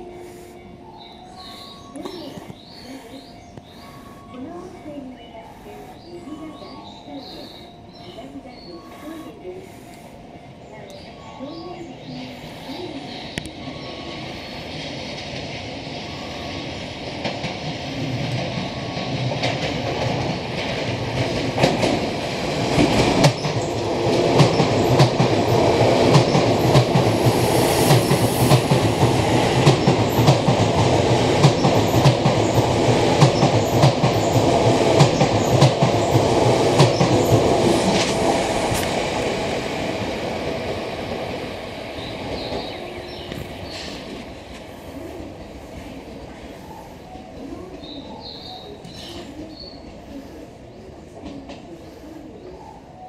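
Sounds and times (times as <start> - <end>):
electric train passing: 0.0 - 53.0.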